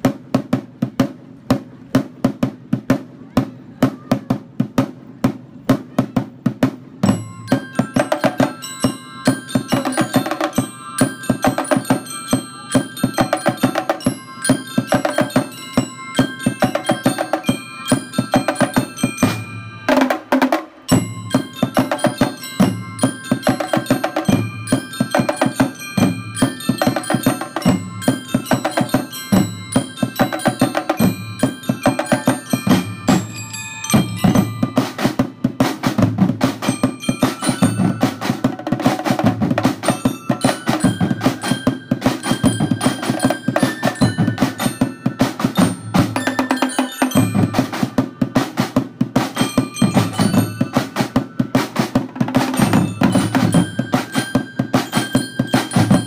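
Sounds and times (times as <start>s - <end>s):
marching drums beating: 0.0s - 56.0s
bell lyres ringing a melody: 7.0s - 56.0s.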